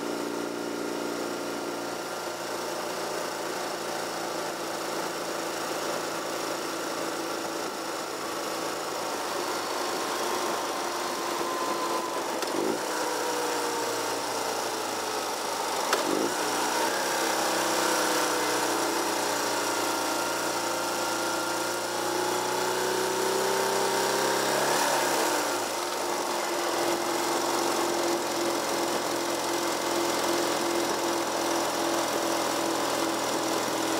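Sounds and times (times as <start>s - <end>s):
car engine: 0.0s - 33.9s.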